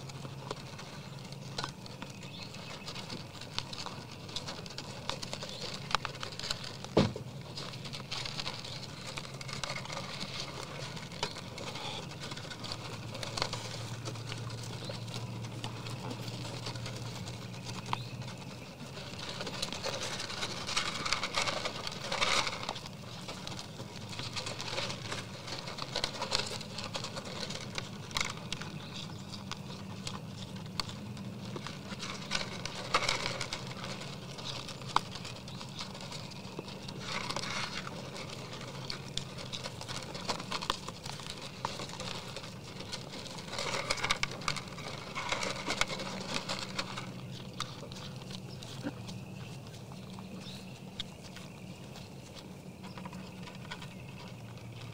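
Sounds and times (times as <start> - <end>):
deer crunching feed: 0.0 - 54.9.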